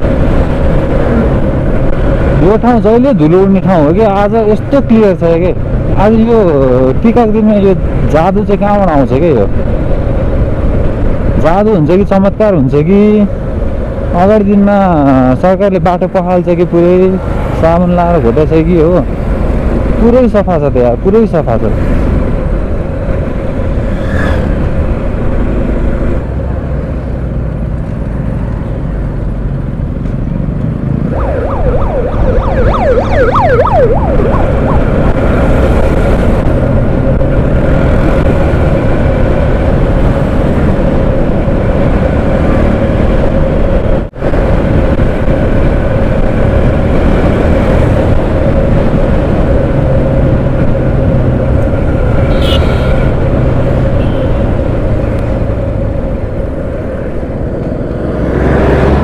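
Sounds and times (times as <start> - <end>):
wind rush: 0.0 - 15.3, 16.4 - 28.2, 29.4 - 59.0.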